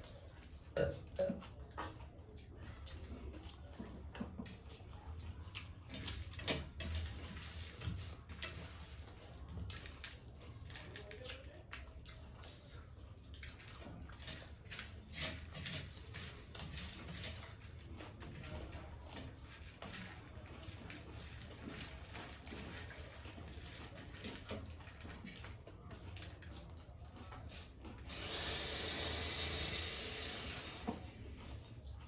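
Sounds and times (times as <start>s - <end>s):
crunchy chewing: 0.0s - 32.0s.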